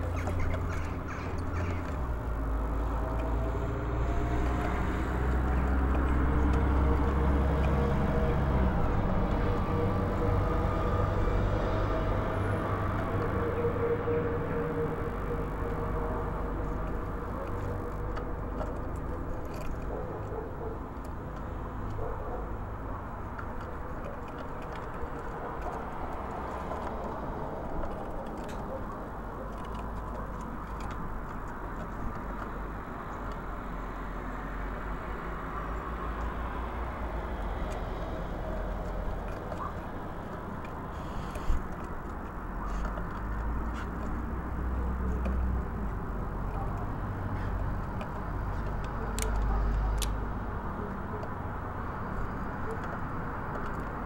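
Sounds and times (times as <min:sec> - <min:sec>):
distant traffic hum: 0:00.0 - 0:54.0.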